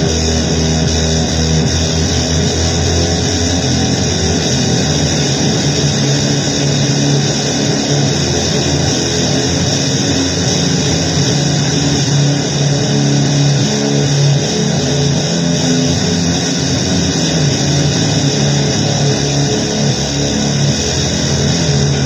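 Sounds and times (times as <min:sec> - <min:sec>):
distorted noise music: 0:00.0 - 0:22.0
low droning notes: 0:00.0 - 0:22.0.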